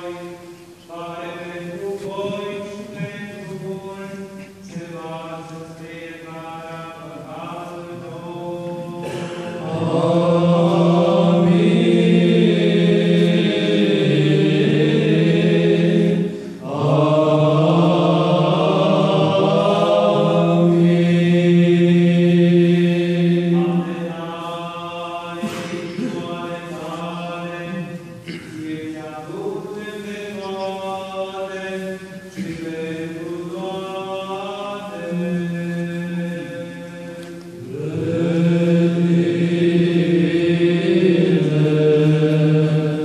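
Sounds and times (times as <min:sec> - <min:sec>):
men's choir chanting: 0:00.0 - 0:43.0.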